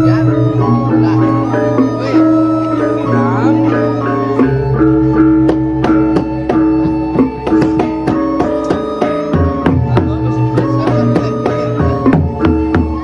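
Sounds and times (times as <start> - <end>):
gamelan gongs ringing: 0.0 - 13.0.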